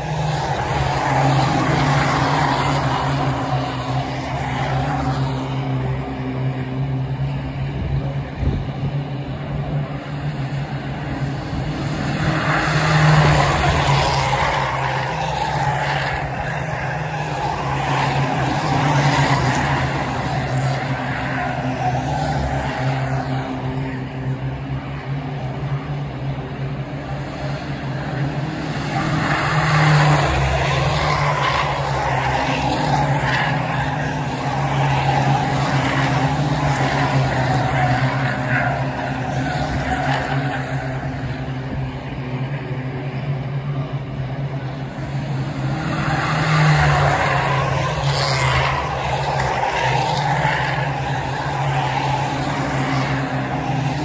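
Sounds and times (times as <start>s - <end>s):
stock car engines racing: 0.0s - 54.0s.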